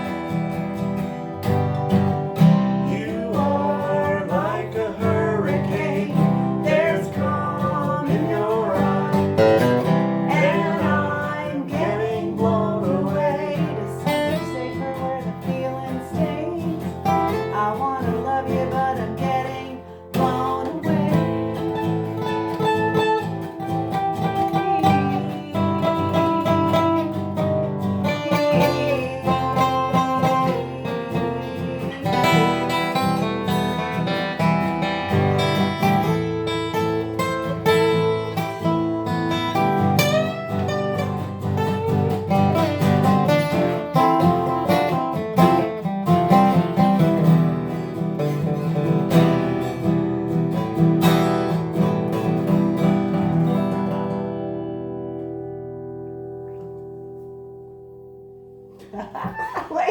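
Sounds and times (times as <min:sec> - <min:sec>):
acoustic guitar strumming chords: 0:00.0 - 0:58.8
bending guitar melody: 0:00.0 - 0:59.4.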